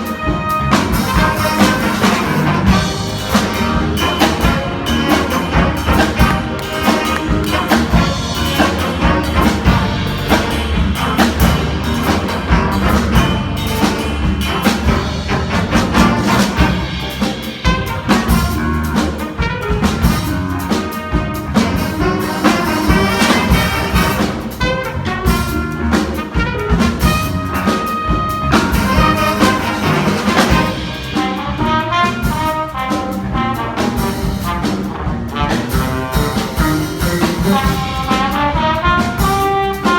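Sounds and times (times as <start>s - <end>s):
brass and drums music: 0.0s - 39.9s.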